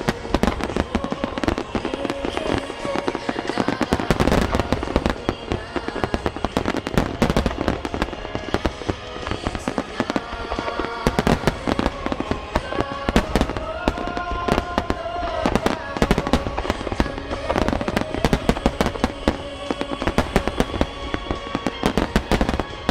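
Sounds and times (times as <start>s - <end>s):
fireworks bangs and crackles: 0.0s - 22.9s
music with long held notes: 0.0s - 22.9s.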